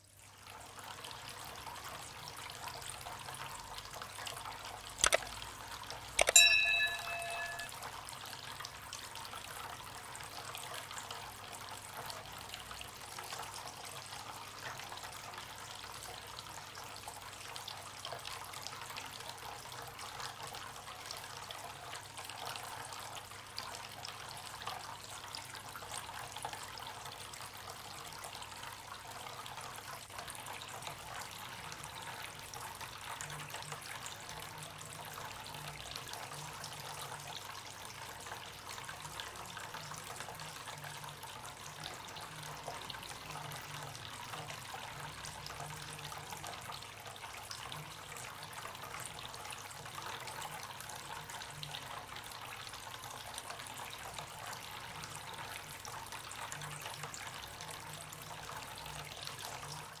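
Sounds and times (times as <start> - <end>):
fountain water trickling: 0.0 - 60.0.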